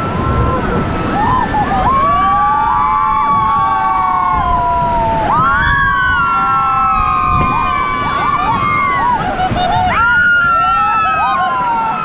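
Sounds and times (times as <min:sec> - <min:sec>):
people screaming and whooping: 0:00.0 - 0:12.0
river rushing: 0:00.0 - 0:12.0.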